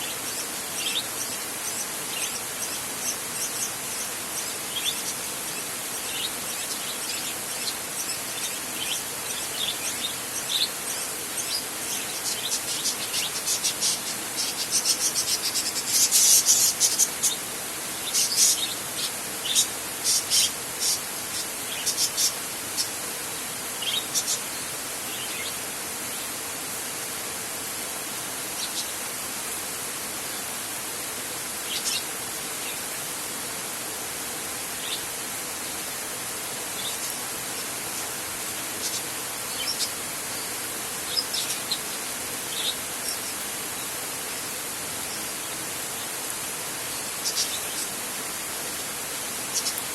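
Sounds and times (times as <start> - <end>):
heavy rain on a metal roof: 0.0 - 49.9.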